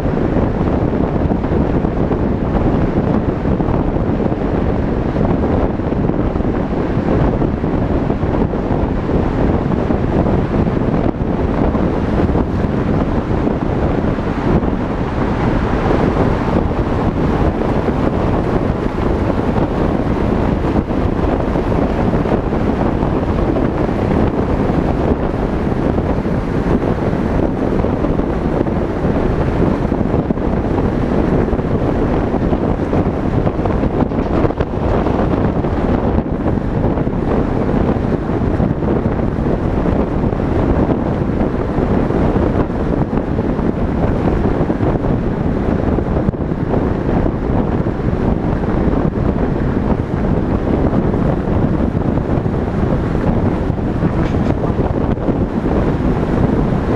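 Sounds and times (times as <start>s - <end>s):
tyres and traffic rumble: 0.0s - 56.9s
wind rushing over microphone: 0.0s - 56.9s.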